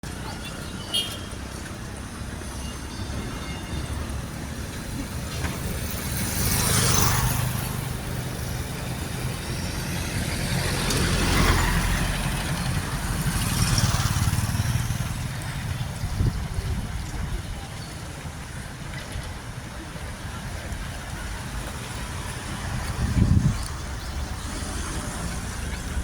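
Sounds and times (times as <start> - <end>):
vehicles passing: 0.0 - 26.0.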